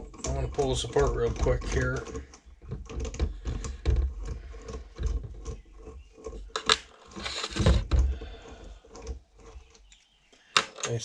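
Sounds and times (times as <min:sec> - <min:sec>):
metal parts clicking and tapping: 0:00.0 - 0:11.0
scraping rattle: 0:00.0 - 0:11.0.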